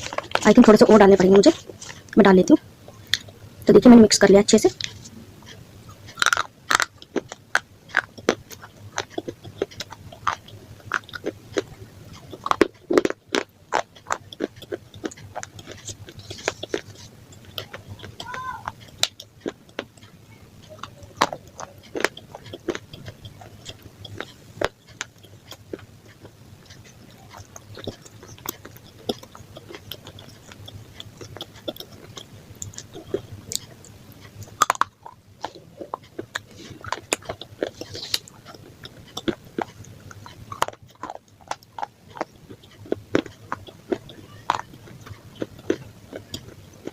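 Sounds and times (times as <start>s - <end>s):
person chewing crunchy food: 0.0s - 3.5s, 4.7s - 46.9s.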